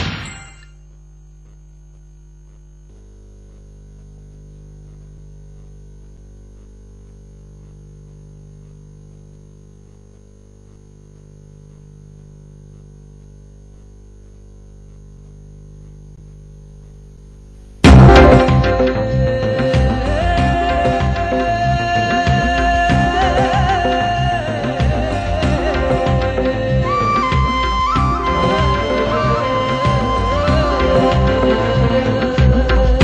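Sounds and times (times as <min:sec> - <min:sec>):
faint high whine: 0:00.0 - 0:32.6
low electrical hum: 0:00.2 - 0:33.0.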